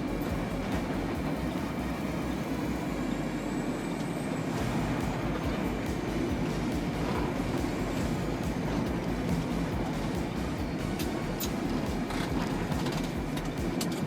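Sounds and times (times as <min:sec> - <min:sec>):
vehicle road and engine noise: 0:00.0 - 0:14.0.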